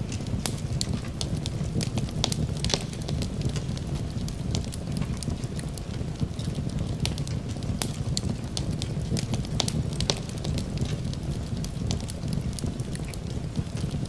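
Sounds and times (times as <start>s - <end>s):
fireplace crackling and popping: 0.0s - 14.0s.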